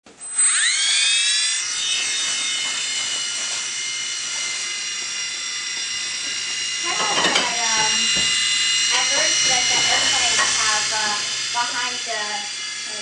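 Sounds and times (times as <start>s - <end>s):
toy helicopter rotor whine: 0.1s - 13.0s.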